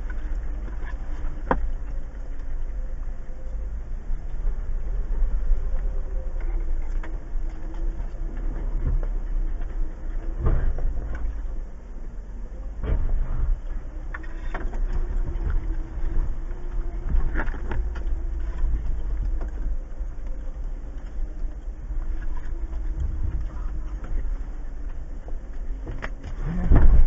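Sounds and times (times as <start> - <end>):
engine rumble at low revs: 0.0 - 27.0.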